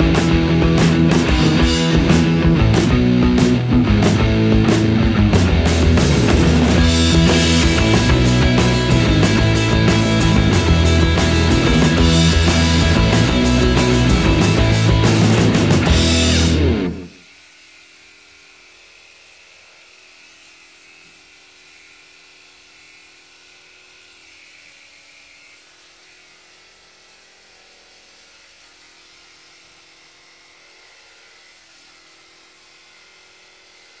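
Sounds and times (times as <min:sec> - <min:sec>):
electric clipper buzzing: 0:00.0 - 0:34.0.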